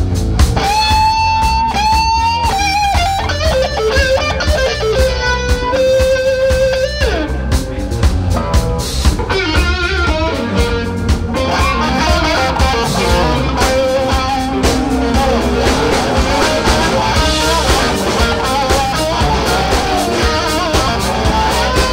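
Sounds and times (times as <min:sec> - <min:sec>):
bass guitar: 0:00.0 - 0:21.9
drums: 0:00.0 - 0:21.9
electric guitar lead: 0:00.0 - 0:21.9.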